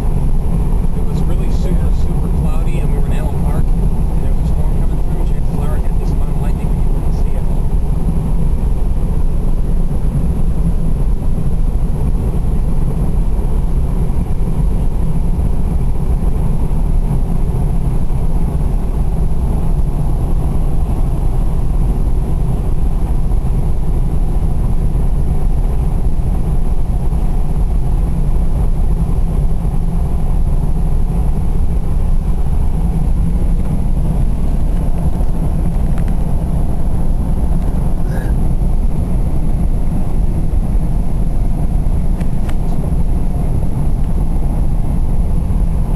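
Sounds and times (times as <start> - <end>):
road and engine rumble inside car: 0.0 - 45.9.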